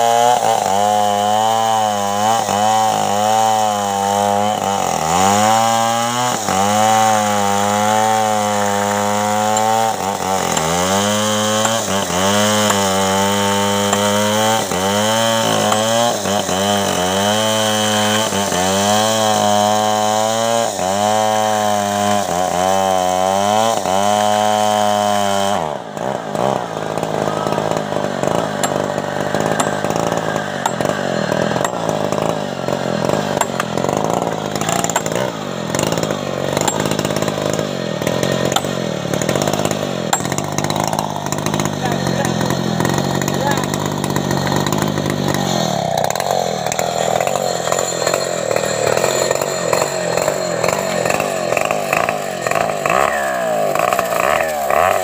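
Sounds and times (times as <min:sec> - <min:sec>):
chainsaw cutting log: 0:00.0 - 0:55.0
rough noisy rasp: 0:00.0 - 0:55.0.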